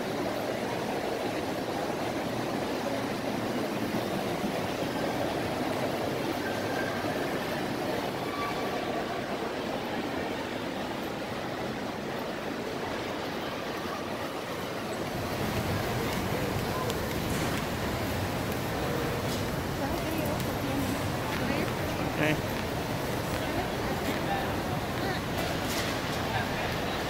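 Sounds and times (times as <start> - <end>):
hubbub of shoppers: 0.0 - 27.0.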